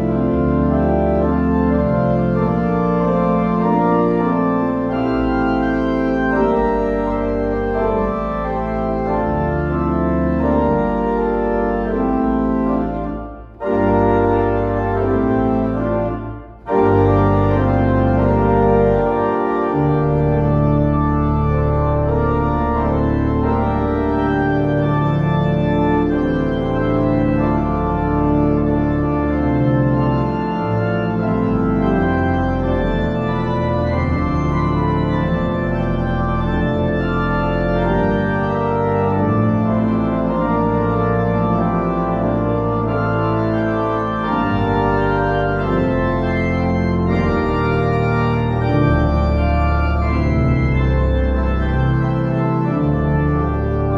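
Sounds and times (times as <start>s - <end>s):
church organ playing chords: 0.0s - 53.9s.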